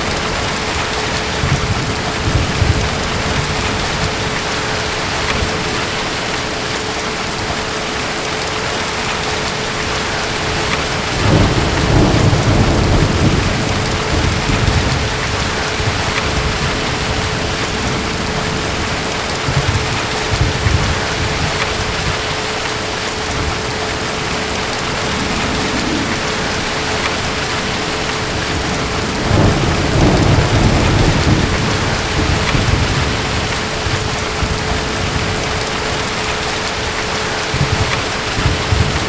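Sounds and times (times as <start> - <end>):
distant thunder rumbling: 0.0 - 8.2, 8.9 - 39.0
heavy rain: 0.0 - 39.0.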